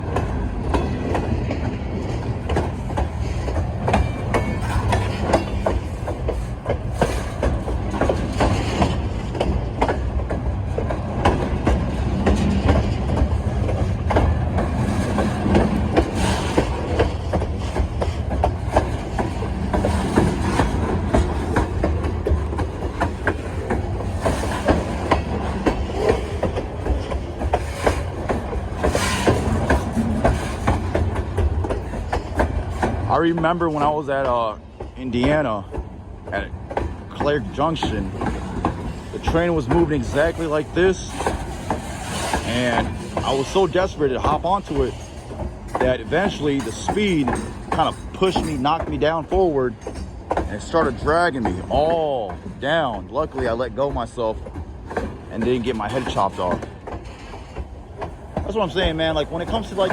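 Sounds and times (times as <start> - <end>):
freight train rumbling: 0.0 - 59.9
wheels clacking over rail joints: 0.0 - 59.9.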